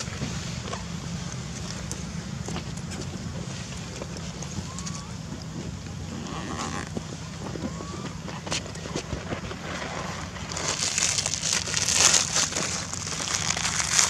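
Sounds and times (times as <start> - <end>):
crackling rustle: 0.0 - 14.0
low wind rumble on microphone: 0.0 - 14.0.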